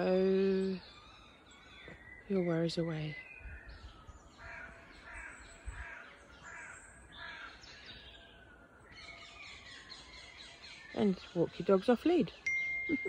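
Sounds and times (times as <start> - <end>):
high bird chirping: 0.0 - 13.0.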